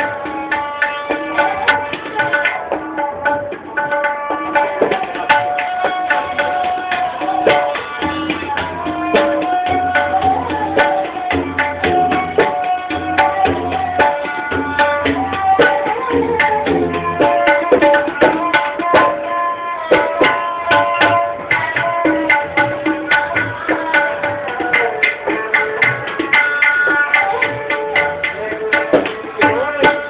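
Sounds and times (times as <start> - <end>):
tabla strokes: 0.0 - 30.0.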